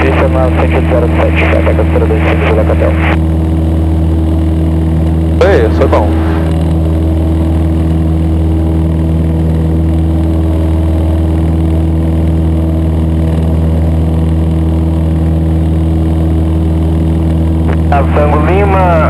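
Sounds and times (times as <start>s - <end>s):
airplane engine and propeller: 0.0s - 19.0s.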